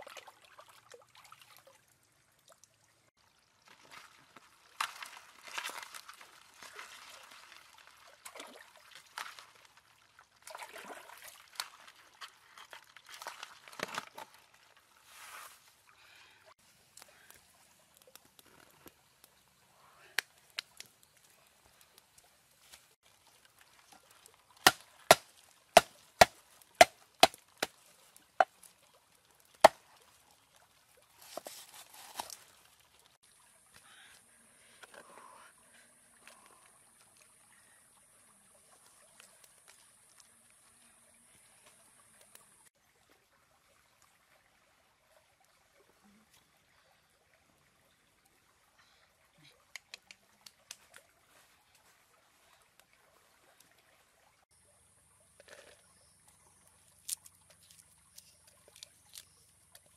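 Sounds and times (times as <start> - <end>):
water pouring and sloshing: 0.0 - 59.9.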